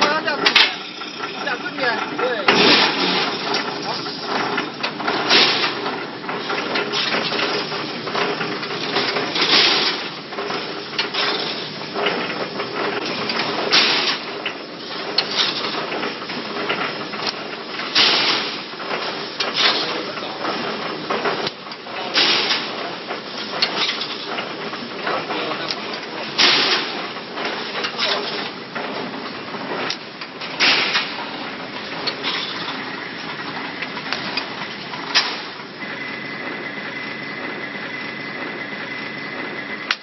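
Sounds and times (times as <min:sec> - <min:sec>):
machine clattering: 0:00.0 - 0:40.0
machine knocking: 0:00.0 - 0:40.0.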